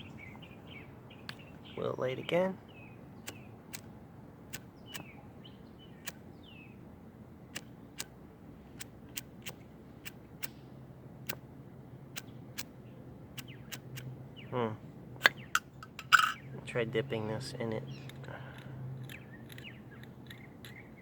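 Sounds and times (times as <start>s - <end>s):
birds chirping: 0.0s - 8.0s, 12.0s - 21.0s.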